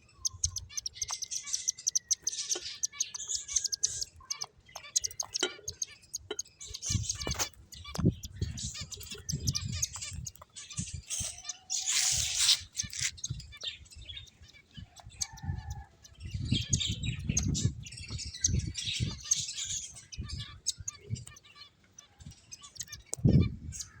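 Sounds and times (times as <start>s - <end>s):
finches chirping: 0.0s - 24.0s
birds thumping and fluttering: 0.5s - 20.3s.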